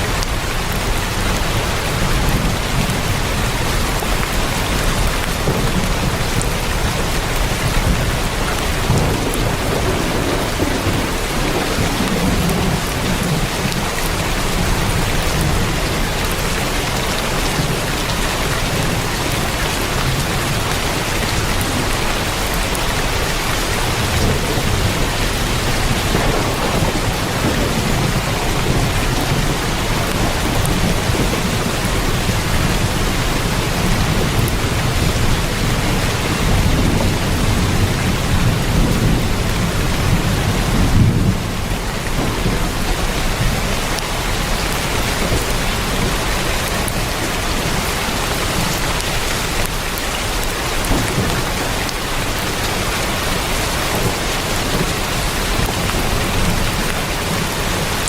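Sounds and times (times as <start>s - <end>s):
heavy rain on a tin roof: 0.0s - 58.0s
thunder rumbling: 0.0s - 58.0s.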